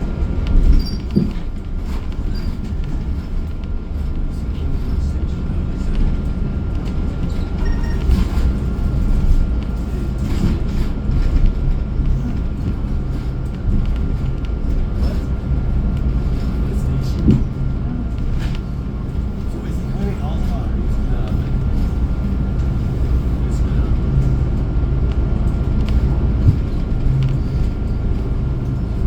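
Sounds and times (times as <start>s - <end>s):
bus engine and road rumble: 0.0s - 29.0s
rattles and knocks: 0.0s - 29.0s.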